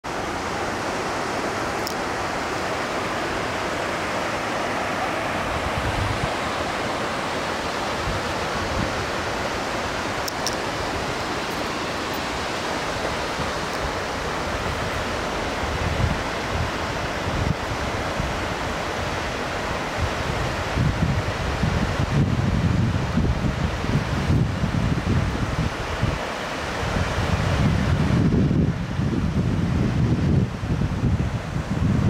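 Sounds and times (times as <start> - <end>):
rushing whitewater: 0.0 - 32.0.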